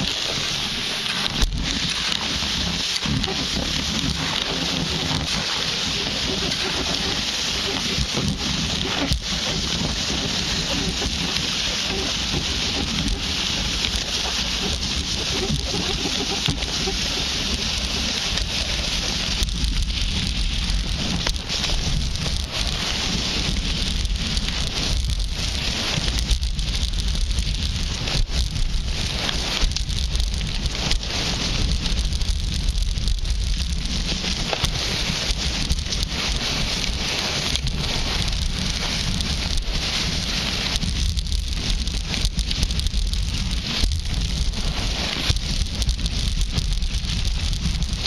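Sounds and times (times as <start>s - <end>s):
skis scraping over snow: 0.0s - 48.0s
wind buffeting microphone: 1.4s - 48.0s.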